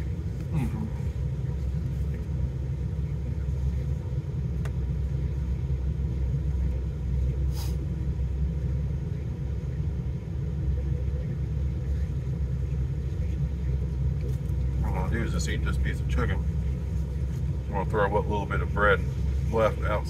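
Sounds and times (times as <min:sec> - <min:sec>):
vehicle idling rumble: 0:00.0 - 0:20.0.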